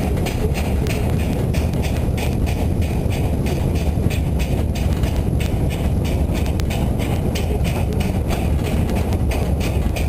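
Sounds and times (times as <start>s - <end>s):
steam train rumbling: 0.0s - 10.0s
train wheels clattering: 0.0s - 10.0s.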